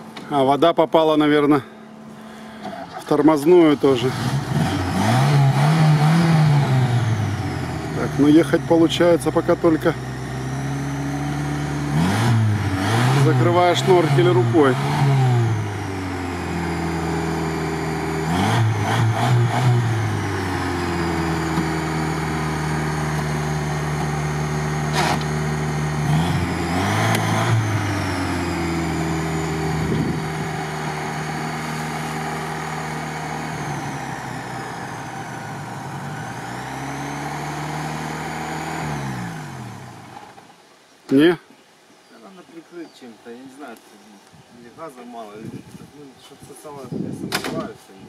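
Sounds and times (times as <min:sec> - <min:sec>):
engine running unevenly: 0:00.0 - 0:40.6.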